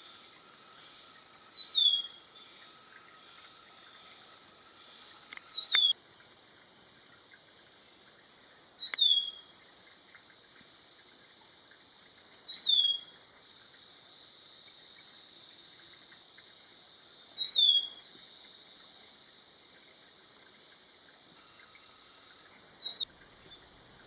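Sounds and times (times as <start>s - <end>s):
insects hissing: 0.0s - 24.0s.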